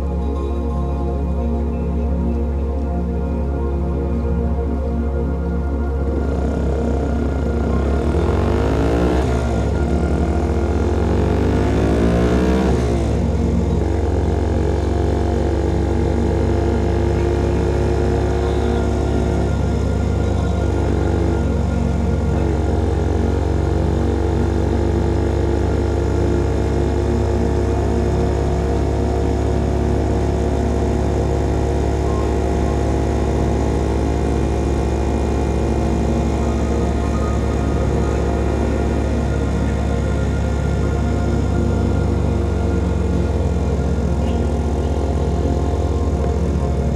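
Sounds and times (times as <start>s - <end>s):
motorcycle engine revving: 6.0s - 46.9s.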